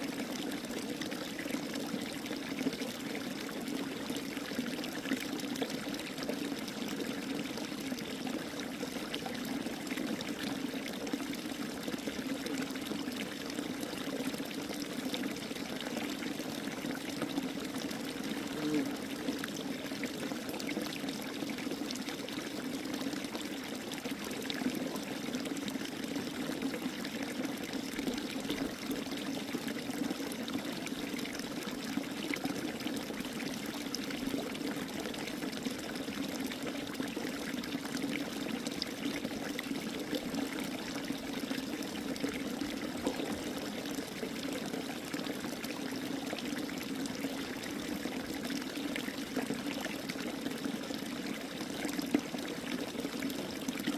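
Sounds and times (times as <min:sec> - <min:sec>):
running water pouring: 0:00.0 - 0:53.9.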